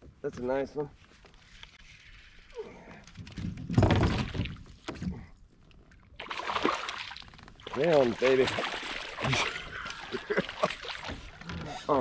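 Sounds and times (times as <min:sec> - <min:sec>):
water moving around kayak: 0:01.1 - 0:12.0.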